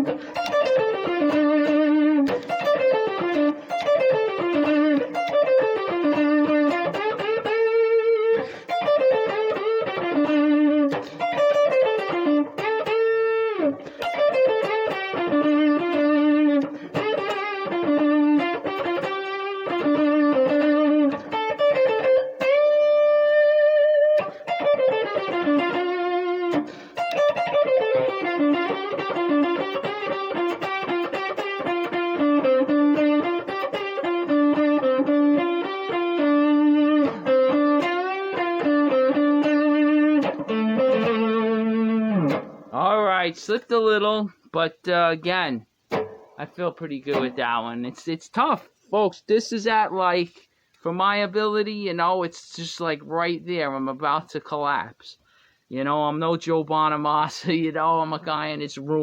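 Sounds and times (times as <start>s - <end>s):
electric guitar blues solo: 0.0s - 59.0s.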